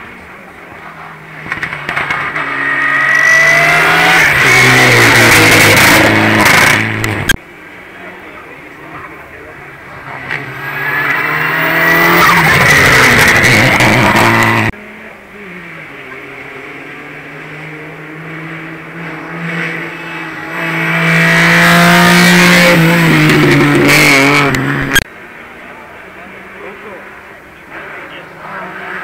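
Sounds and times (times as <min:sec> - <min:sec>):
race cars at full throttle: 0:00.0 - 0:29.0.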